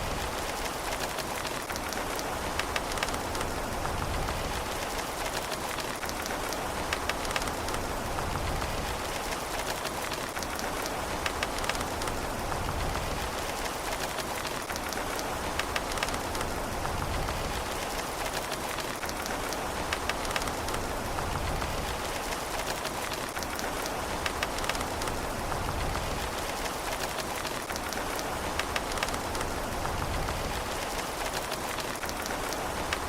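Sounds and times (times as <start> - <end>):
raindrops ticking: 0.0 - 33.0
steady rain hiss: 0.0 - 33.0.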